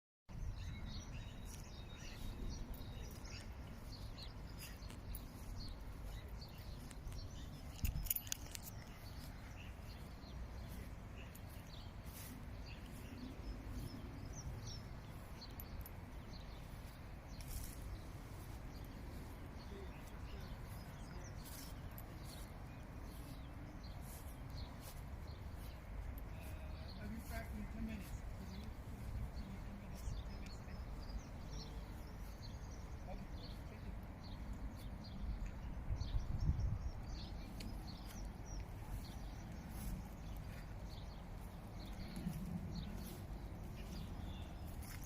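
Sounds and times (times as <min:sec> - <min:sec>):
small birds chirping: 0:00.3 - 0:45.0.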